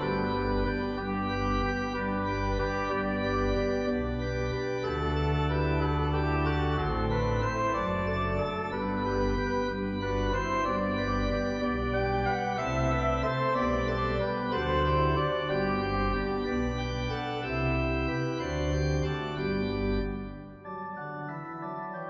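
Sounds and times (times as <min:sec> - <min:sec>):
organ music: 0:00.0 - 0:22.0.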